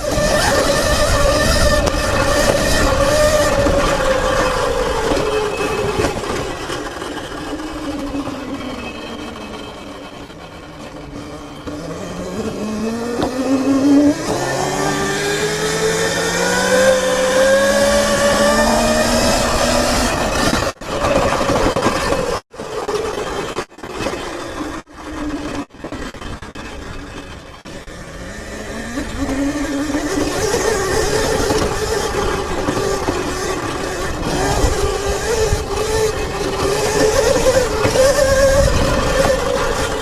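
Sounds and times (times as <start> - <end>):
electric dirt bike motor whining: 0.0 - 40.0.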